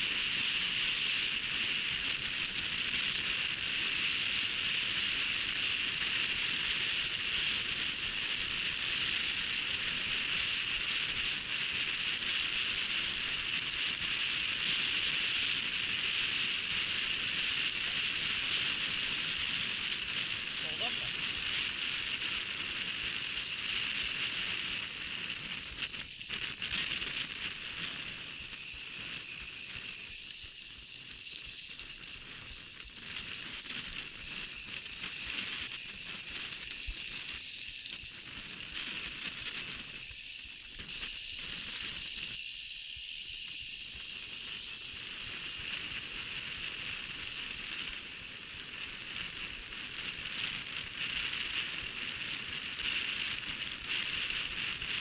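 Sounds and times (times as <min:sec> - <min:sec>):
bike rattling over bumps: 0:00.1 - 0:55.0.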